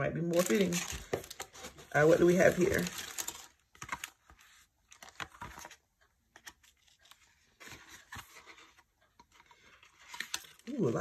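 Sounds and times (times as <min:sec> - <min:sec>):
cardboard and paper filler rustling: 0:00.2 - 0:05.8, 0:06.4 - 0:11.0.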